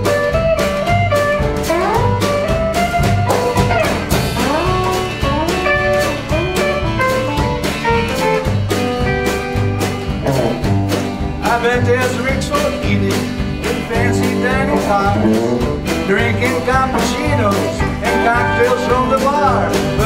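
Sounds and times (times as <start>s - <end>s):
acoustic rhythm guitar: 0.0s - 20.0s
bass: 0.0s - 20.0s.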